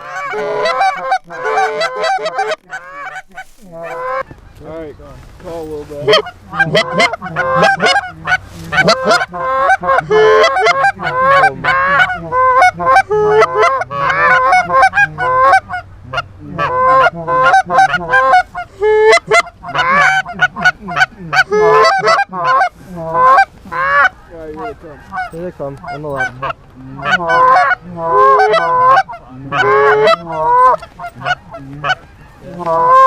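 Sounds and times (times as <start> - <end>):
geese honking and clucking: 0.0 - 33.0.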